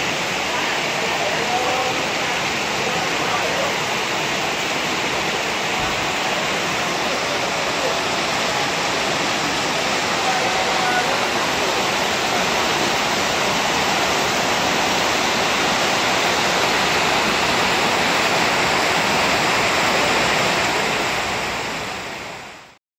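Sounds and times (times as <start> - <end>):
heavy rain pouring: 0.0 - 22.8.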